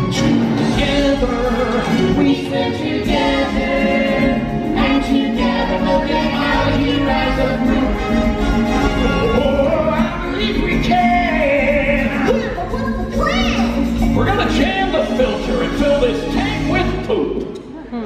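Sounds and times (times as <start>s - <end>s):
orchestral accompaniment: 0.0s - 17.4s
singers: 0.0s - 17.4s.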